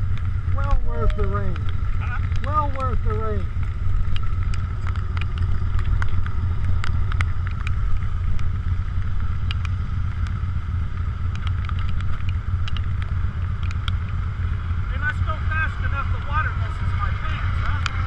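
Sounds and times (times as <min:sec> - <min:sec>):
sharp ticks: 0:00.0 - 0:16.4, 0:17.2 - 0:18.0
motorcycle engine idling: 0:00.0 - 0:18.0.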